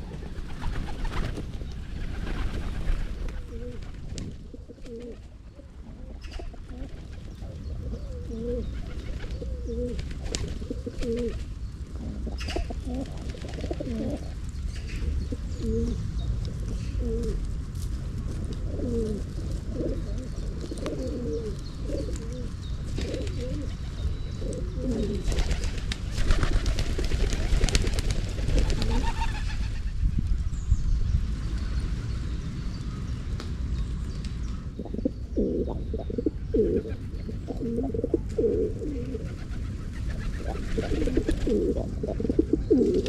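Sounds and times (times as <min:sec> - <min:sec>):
pigeons cooing: 0:00.0 - 0:16.1, 0:16.7 - 0:17.4, 0:18.3 - 0:29.8, 0:34.8 - 0:43.0.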